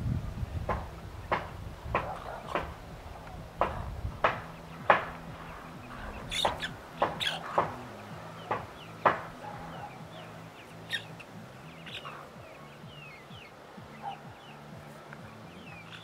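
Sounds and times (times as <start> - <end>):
chicks peeping: 0.3 - 16.0
hen clucking: 0.7 - 16.0.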